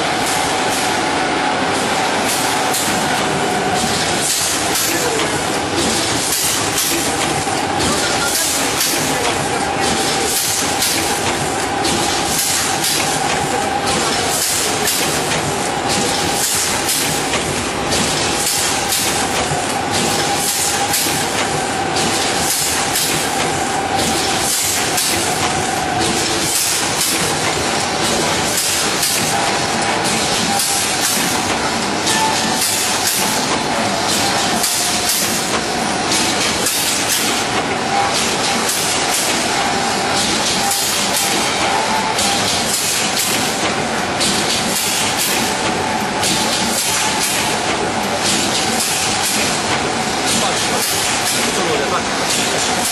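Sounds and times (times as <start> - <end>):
packing machine running: 0.0 - 52.9.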